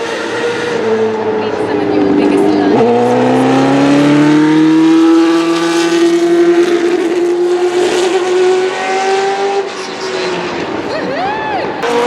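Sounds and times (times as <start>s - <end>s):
racing car engine accelerating: 0.0s - 12.0s.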